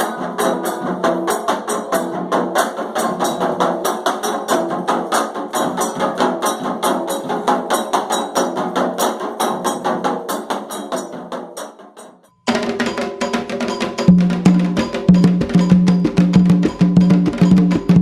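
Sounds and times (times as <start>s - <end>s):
ceremonial percussion music: 0.0s - 18.0s.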